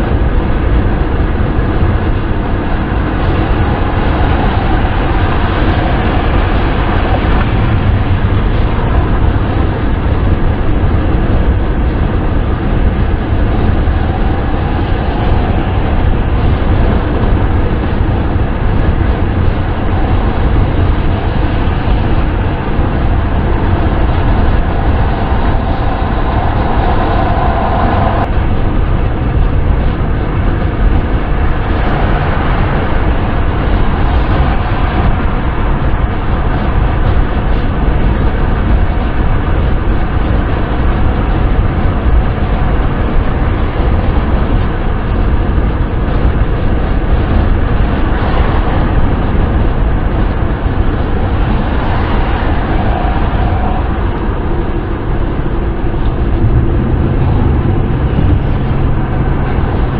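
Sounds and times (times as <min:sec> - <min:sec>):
car road and wind noise: 0:00.0 - 0:59.9
faint hum: 0:00.0 - 0:59.9.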